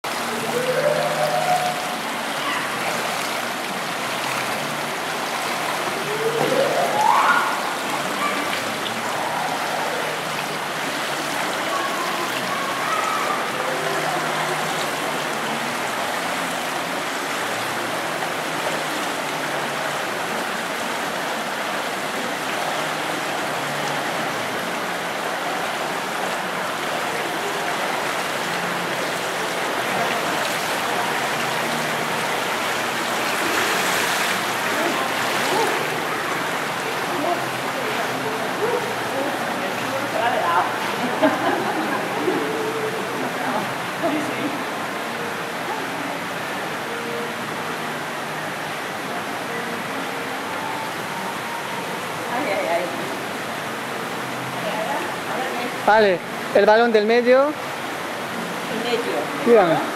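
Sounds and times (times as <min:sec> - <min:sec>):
pool water splashing: 0:00.0 - 0:59.9.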